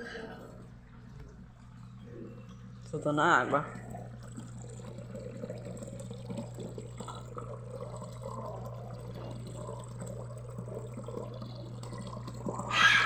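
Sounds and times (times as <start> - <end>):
water draining from hose: 0.0 - 13.0.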